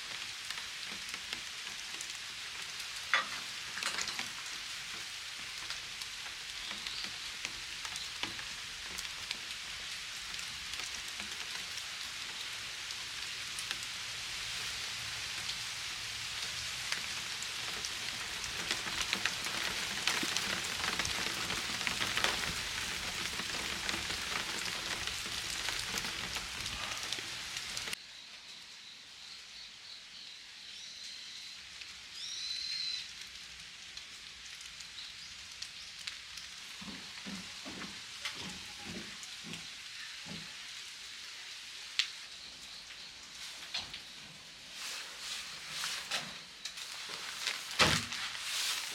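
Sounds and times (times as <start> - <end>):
forest ambience: 0.0 - 48.9
steady rain pattering: 0.0 - 48.9.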